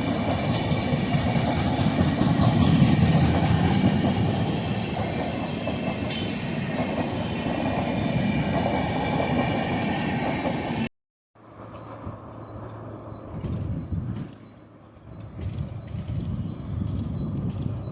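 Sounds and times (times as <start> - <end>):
train wheels rumbling on track: 0.0 - 10.9, 11.5 - 17.9.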